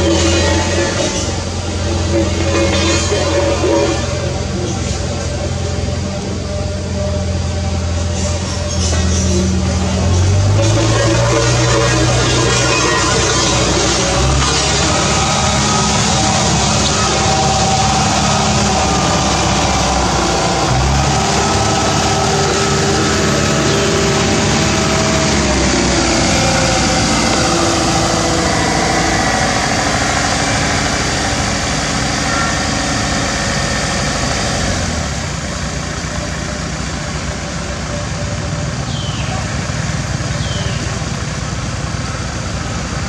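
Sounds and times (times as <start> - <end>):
heavy machine engines running: 0.0 - 43.0.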